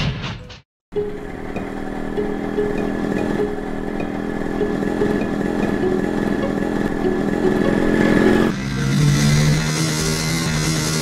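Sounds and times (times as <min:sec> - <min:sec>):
cartoon motorcycle engine buzz: 0:01.0 - 0:11.0.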